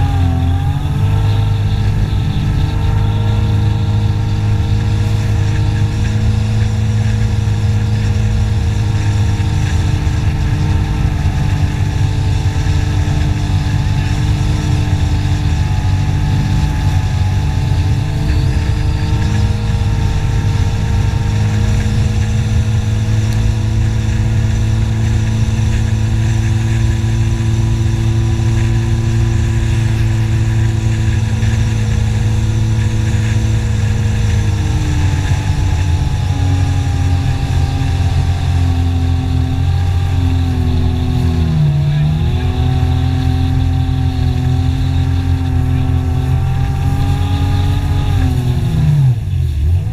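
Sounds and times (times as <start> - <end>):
jet ski engine running: 0.0 - 49.9.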